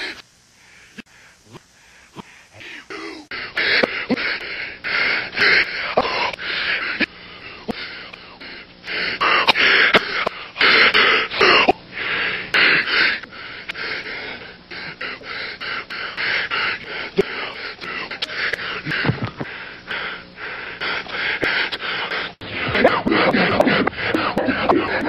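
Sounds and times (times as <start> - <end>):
person gasping and panting: 0.0 - 25.0.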